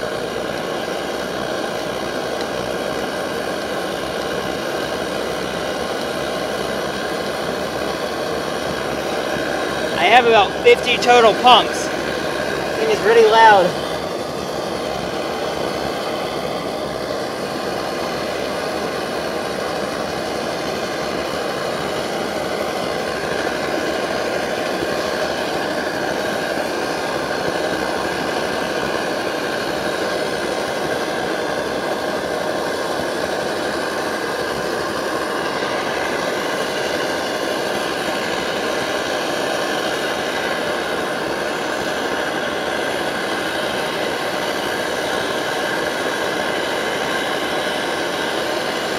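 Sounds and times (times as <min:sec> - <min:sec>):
stove burner rushing hiss: 0:00.0 - 0:48.9.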